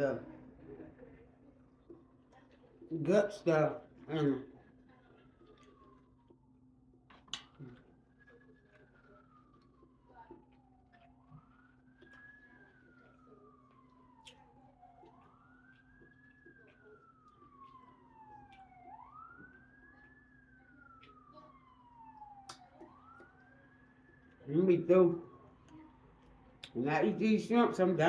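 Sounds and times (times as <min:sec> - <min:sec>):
faint emergency siren wailing: 0:00.0 - 0:28.0.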